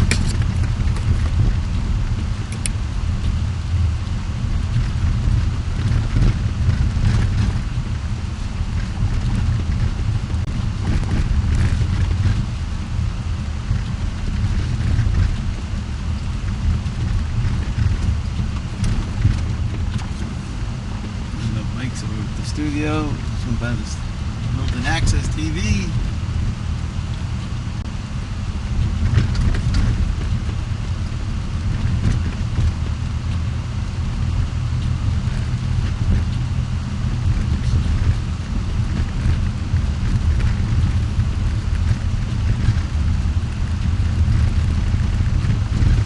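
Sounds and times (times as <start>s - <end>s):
car driving rumble from inside: 0.0s - 46.0s.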